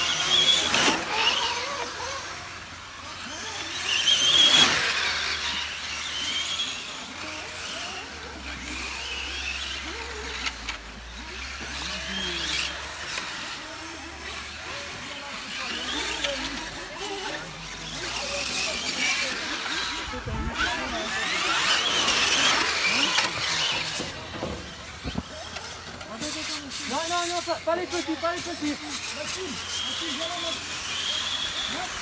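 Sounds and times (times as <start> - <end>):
rc car motors whining past: 0.0 - 32.0.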